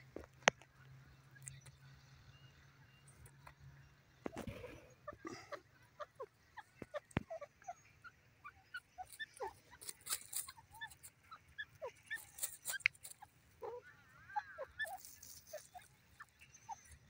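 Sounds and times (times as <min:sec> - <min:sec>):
bird peeps and squeaks: 0:03.0 - 0:17.0.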